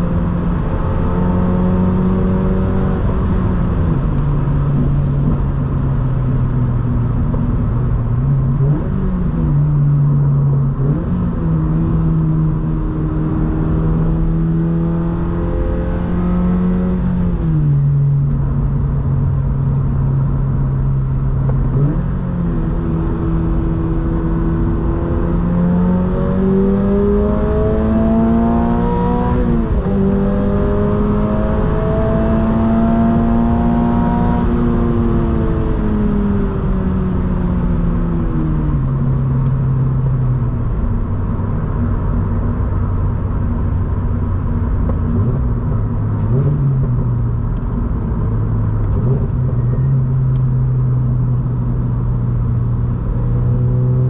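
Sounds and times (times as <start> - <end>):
car engine revving: 0.0 - 54.0
road noise rumble: 0.0 - 54.0.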